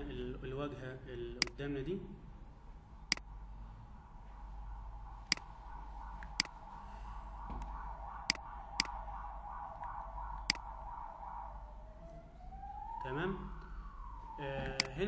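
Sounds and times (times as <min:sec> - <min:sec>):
faint wavering background tone: 0:00.0 - 0:15.0.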